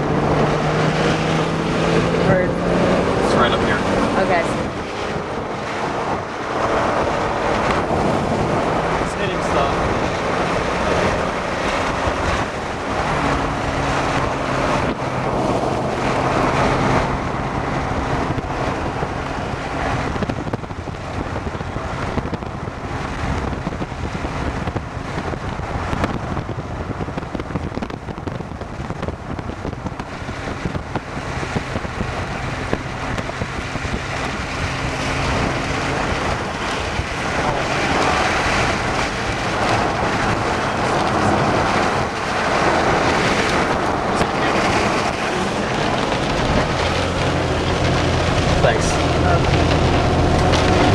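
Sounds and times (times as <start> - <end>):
low engine hum: 0.0 - 50.9
wind rushing over microphone: 0.0 - 50.9.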